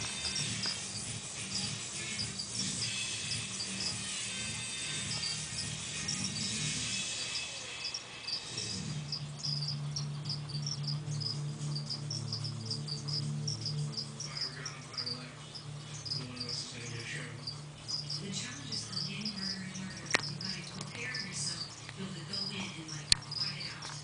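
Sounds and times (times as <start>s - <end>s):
crickets chirping: 0.0s - 24.0s
low hum: 0.0s - 24.0s.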